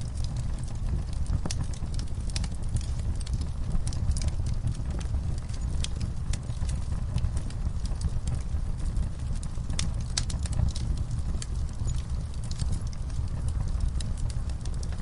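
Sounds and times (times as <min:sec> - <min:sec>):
burning logs crackling and popping: 0:00.0 - 0:15.0
fire flames rumbling: 0:00.0 - 0:15.0.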